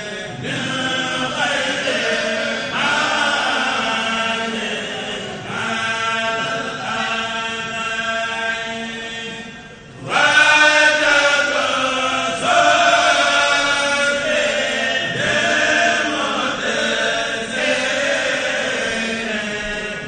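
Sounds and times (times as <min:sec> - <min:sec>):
male choir chanting in unison: 0:00.0 - 0:20.0.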